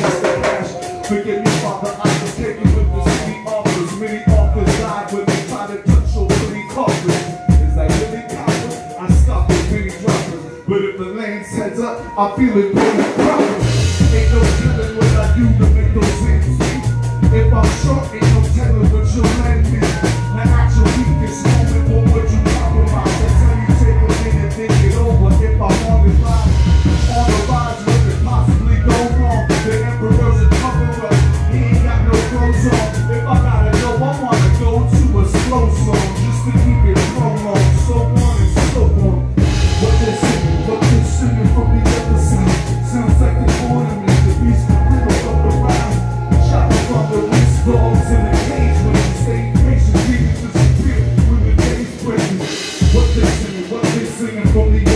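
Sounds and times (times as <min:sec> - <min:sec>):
drum kit beat: 0:00.0 - 0:10.4, 0:12.7 - 0:54.9
heavy bass line: 0:00.0 - 0:10.7, 0:12.5 - 0:54.9
horns holding long notes: 0:00.0 - 0:54.7
live band playing: 0:00.0 - 0:54.9.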